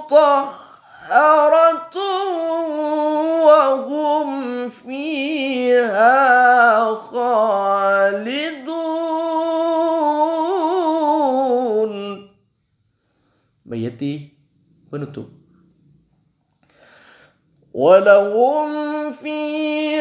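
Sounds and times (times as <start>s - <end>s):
man chanting recitation: 0.0s - 12.3s, 13.6s - 15.5s, 17.7s - 20.0s.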